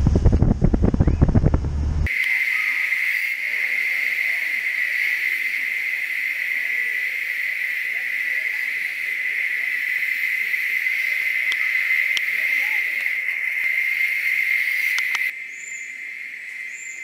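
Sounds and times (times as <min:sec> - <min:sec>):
cicadas droning: 0:02.0 - 0:17.0.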